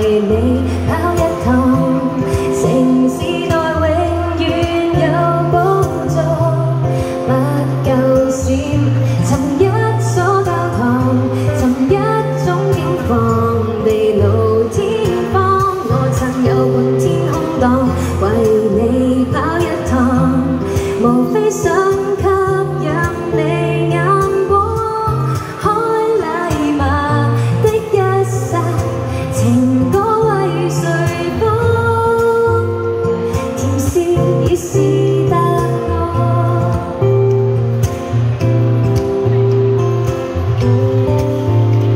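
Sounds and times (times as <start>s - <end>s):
woman singing into microphone: 0.0s - 39.6s
acoustic guitar: 0.0s - 41.9s.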